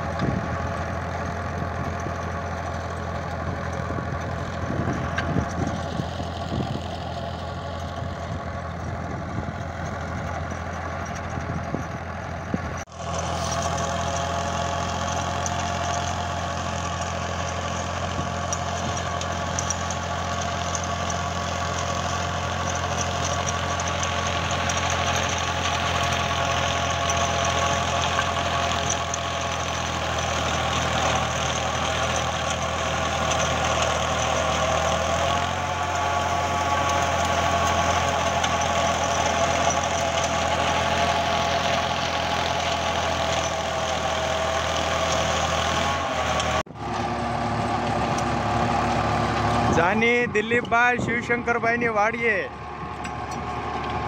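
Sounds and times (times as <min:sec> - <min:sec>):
rotavator whine: 0:00.0 - 0:54.0
tractor diesel engine running: 0:00.0 - 0:54.0.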